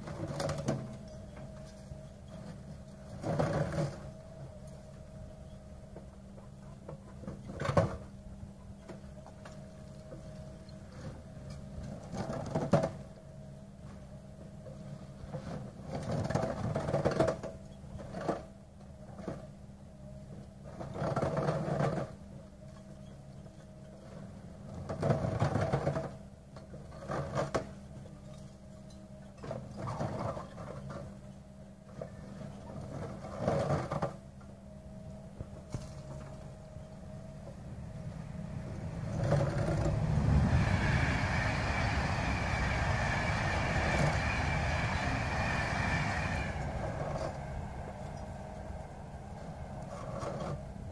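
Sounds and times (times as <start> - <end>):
excavator engine and hydraulics hum: 0.0 - 50.9.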